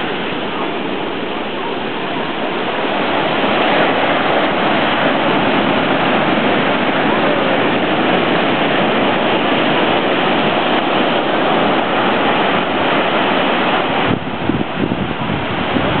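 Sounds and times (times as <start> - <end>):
gusty low rumbles: 0.0 - 16.0
ocean surf breaking on beach: 0.0 - 16.0.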